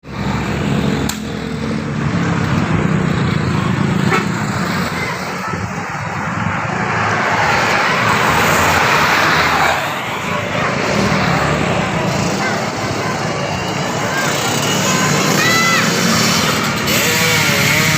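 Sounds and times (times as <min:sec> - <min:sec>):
road noise: 0:00.0 - 0:17.9
traffic engine rumble: 0:00.0 - 0:17.9.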